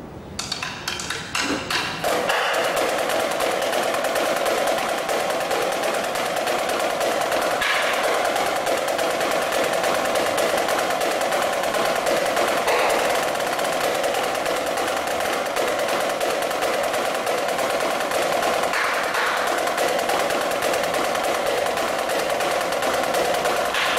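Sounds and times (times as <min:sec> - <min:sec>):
snare drum rolls: 0:00.4 - 0:23.9.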